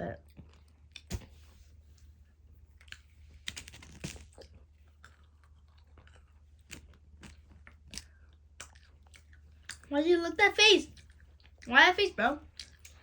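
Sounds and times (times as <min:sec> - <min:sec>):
person chewing candy: 0:00.1 - 0:09.9, 0:10.9 - 0:11.7, 0:12.4 - 0:13.0.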